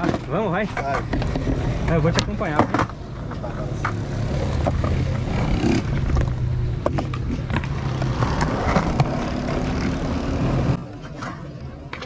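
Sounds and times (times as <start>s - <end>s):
skateboard clicks and knocks: 0.0s - 12.0s
skateboard wheels rolling on concrete: 0.0s - 12.0s.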